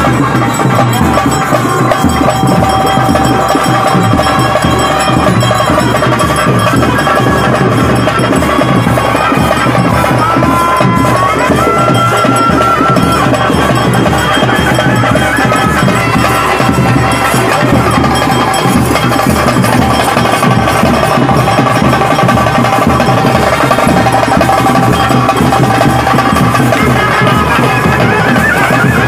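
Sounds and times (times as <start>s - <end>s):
clanging percussion: 0.0s - 29.0s
dense drumming: 0.0s - 29.0s
wind instrument holding long notes: 0.0s - 29.0s.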